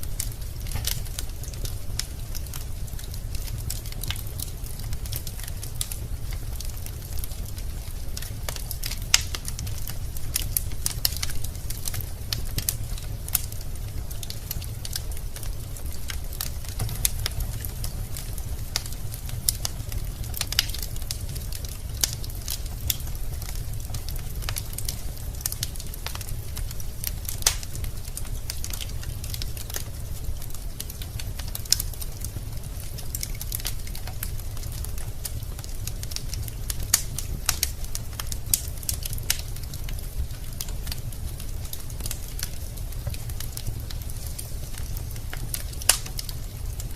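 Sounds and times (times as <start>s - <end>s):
burning logs crackling: 0.0s - 46.9s
fire low rumble: 0.0s - 46.9s.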